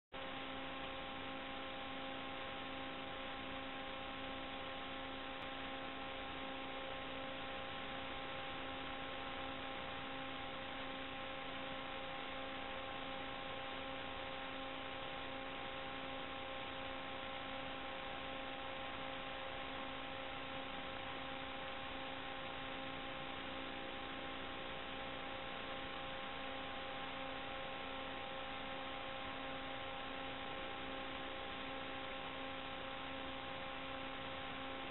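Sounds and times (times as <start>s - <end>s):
multi-tone electrical hum: 0.1s - 34.9s.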